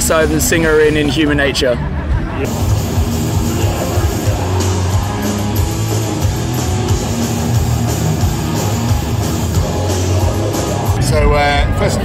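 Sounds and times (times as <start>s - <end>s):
distorted electric guitars: 0.0s - 12.0s
drums: 2.0s - 12.0s.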